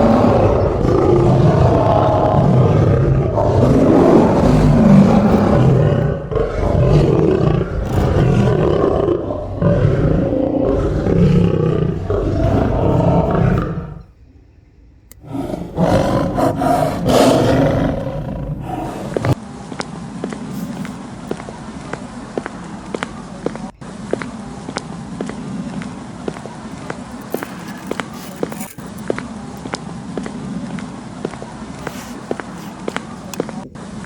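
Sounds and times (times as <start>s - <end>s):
loud continuous roaring: 0.0s - 14.2s, 15.0s - 34.0s.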